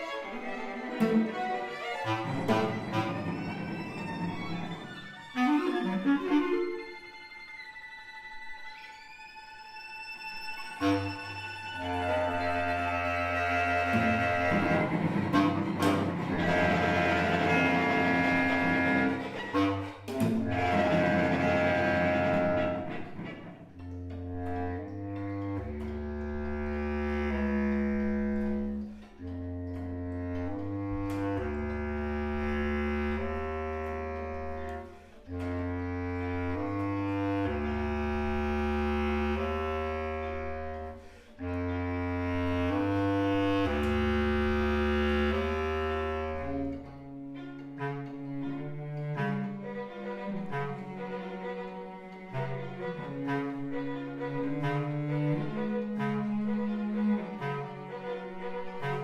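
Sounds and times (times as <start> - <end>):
instrumental music: 0.0 - 59.0.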